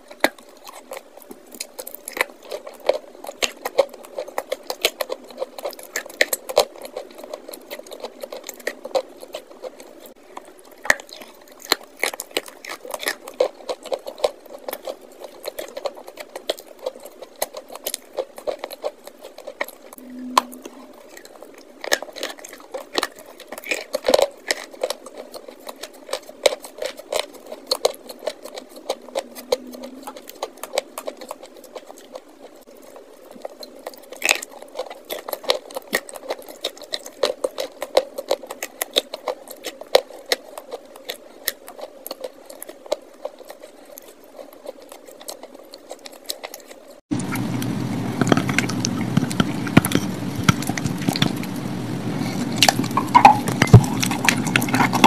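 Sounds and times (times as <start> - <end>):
chalk crunching and chewing: 0.0 - 55.0.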